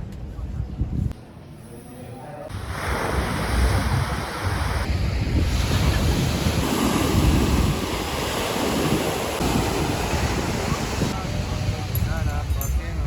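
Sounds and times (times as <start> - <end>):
wind buffeting microphone: 2.5 - 13.0.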